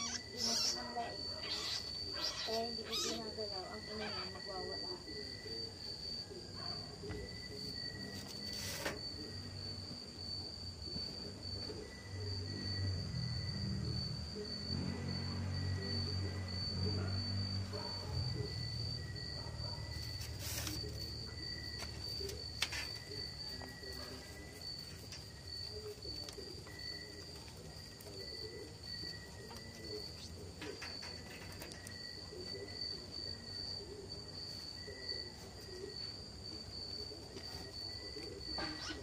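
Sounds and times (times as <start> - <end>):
cricket trilling: 0.0 - 39.0.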